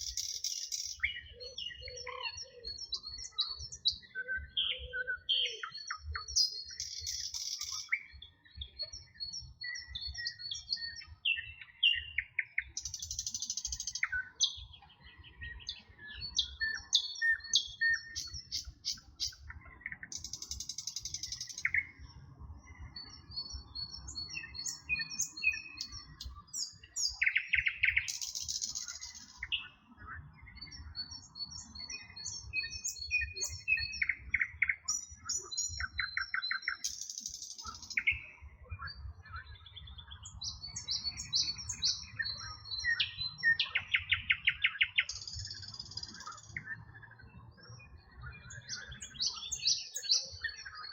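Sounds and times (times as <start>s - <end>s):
songbirds singing and chirping: 0.0s - 50.9s.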